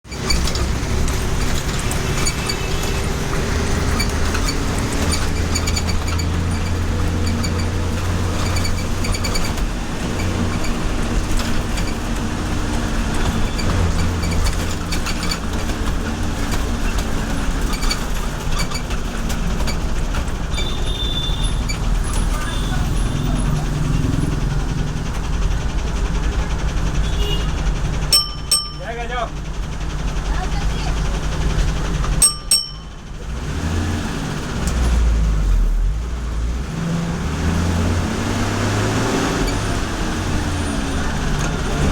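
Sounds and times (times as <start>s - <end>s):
bus engine droning: 0.0s - 41.9s.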